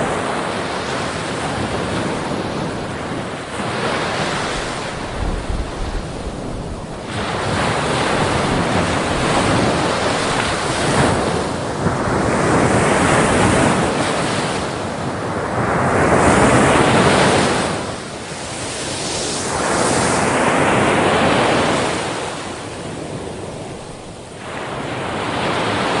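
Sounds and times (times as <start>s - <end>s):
waves crashing: 0.0s - 26.0s
wind on microphone: 0.0s - 26.0s.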